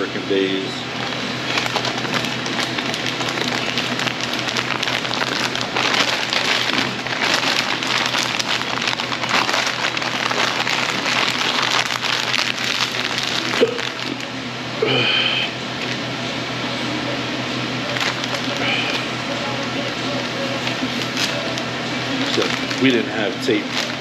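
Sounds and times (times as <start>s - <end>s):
wrapping paper crinkling: 1.0s - 14.3s, 17.8s - 24.0s.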